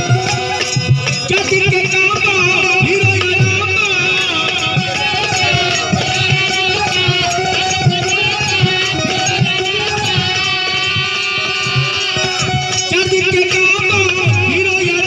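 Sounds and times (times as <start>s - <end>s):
regular drum beats: 0.0s - 15.0s
wavering lead melody: 0.0s - 15.0s.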